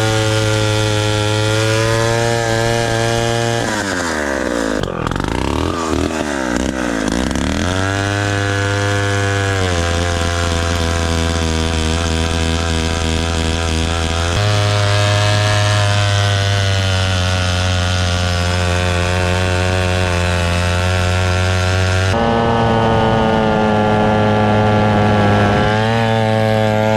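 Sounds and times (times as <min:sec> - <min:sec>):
two-stroke chainsaw engine running: 0:00.0 - 0:26.9.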